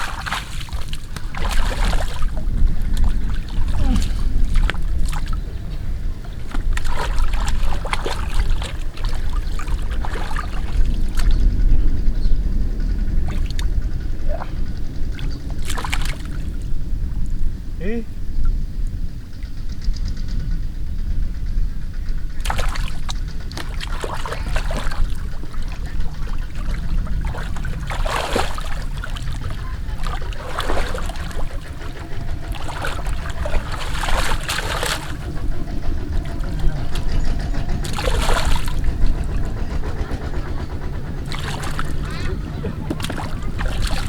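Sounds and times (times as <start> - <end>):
water splashing: 0.0 - 11.5, 13.1 - 13.7, 15.1 - 16.7, 22.4 - 44.0
low rumble: 0.0 - 44.0.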